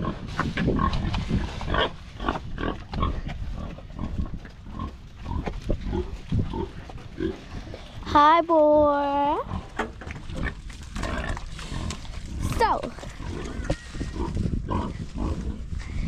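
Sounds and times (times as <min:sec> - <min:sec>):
pigs grunting: 0:00.0 - 0:08.1, 0:09.2 - 0:16.0.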